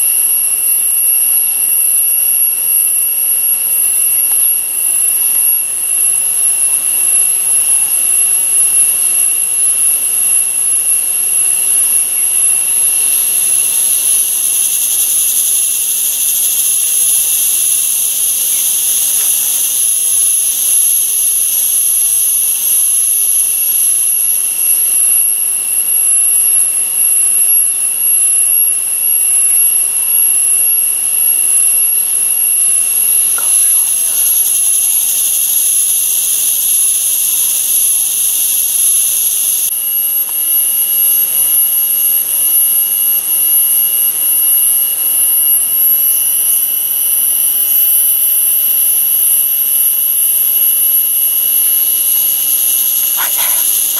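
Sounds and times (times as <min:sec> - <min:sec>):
cicadas droning: 0:00.0 - 0:53.9
higher insect song: 0:00.0 - 0:53.9.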